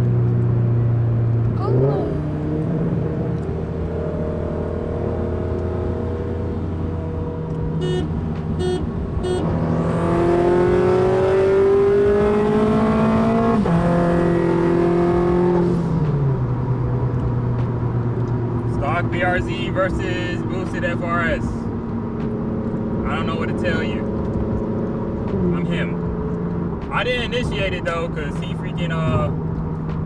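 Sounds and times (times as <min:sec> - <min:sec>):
car engine pulling hard: 0:00.7 - 0:30.0.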